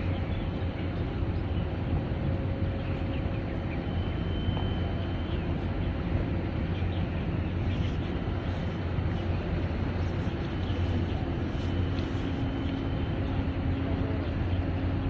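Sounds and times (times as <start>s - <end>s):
low harbour rumble: 0.0s - 15.0s.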